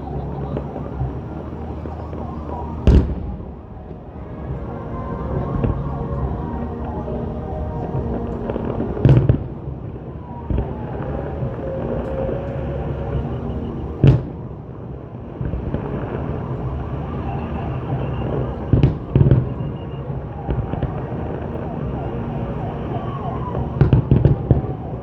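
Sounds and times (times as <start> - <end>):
steady background din: 0.0 - 25.0.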